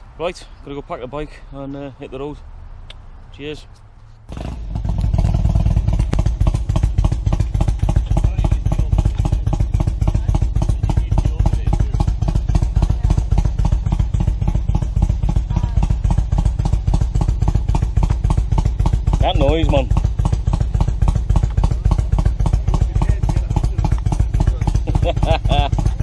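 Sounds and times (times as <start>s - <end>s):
motorcycle engine idling: 4.3s - 26.0s.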